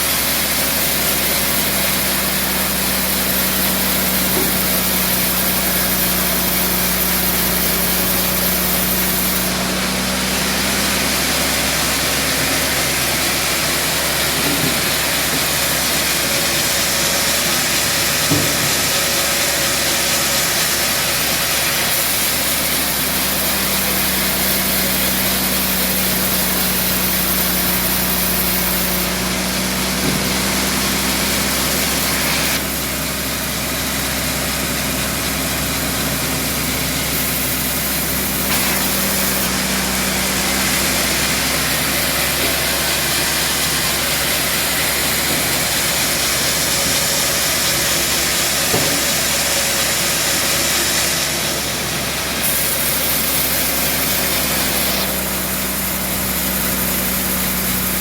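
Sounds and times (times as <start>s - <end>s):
band saw cutting log: 0.0s - 58.0s
sawmill hum: 0.0s - 58.0s.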